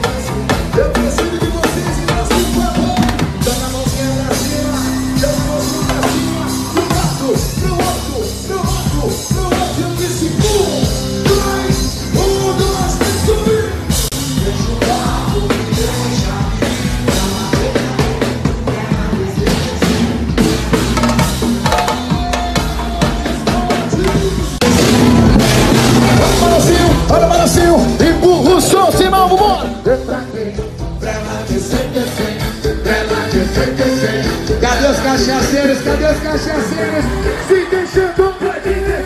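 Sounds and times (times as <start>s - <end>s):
drum kit and percussion beat: 0.0s - 39.0s
live band playing loud: 0.0s - 39.0s.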